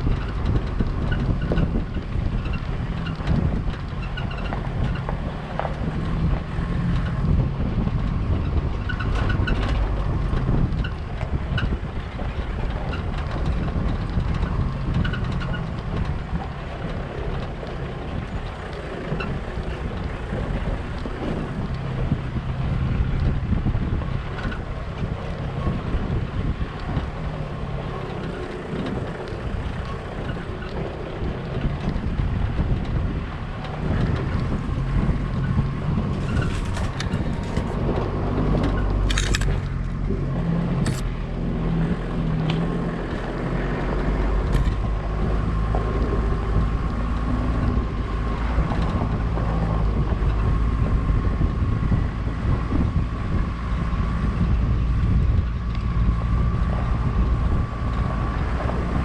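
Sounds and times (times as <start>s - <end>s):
engine and road rumble: 0.0s - 59.0s
wind noise on microphone: 0.0s - 59.0s.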